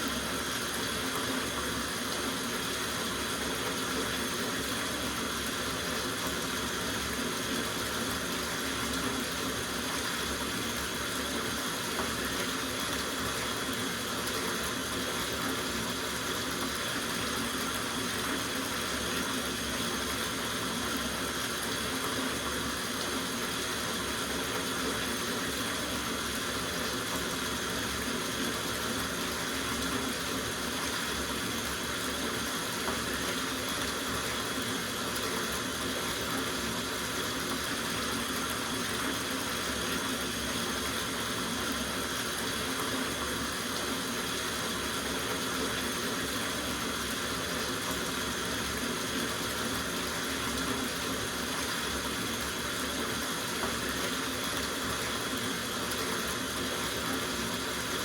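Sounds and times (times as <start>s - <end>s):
tap water running into tub: 0.0s - 58.0s.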